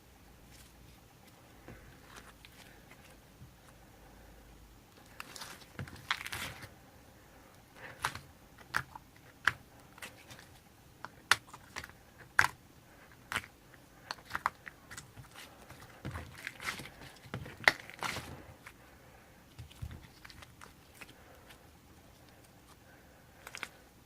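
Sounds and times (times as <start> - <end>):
clay kneaded by hand: 0.0 - 24.0.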